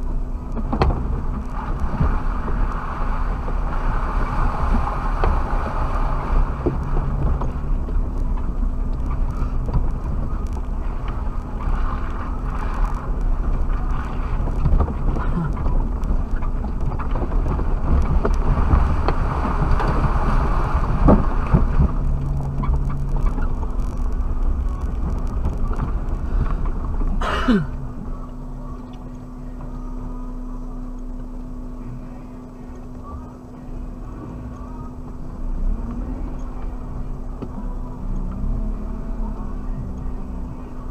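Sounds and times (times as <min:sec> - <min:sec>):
engine and tyres rumbling: 0:00.0 - 0:40.9
low hum: 0:00.0 - 0:40.9.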